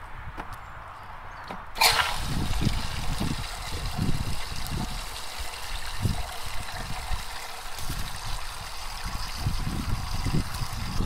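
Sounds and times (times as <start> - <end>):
water rushing into tub: 1.8 - 11.0.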